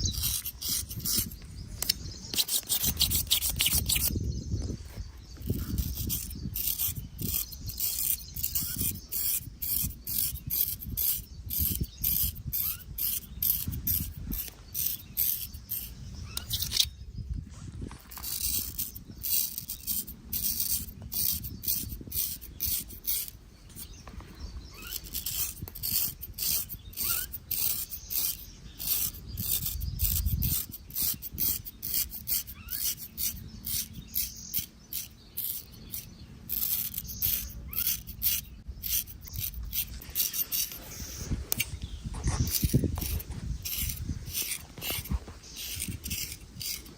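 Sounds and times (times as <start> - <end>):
razor scraping stubble: 0.0 - 46.9.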